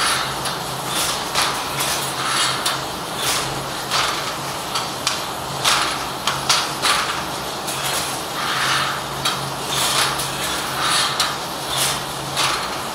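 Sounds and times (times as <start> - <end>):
loom mechanism clacking: 0.0 - 12.9.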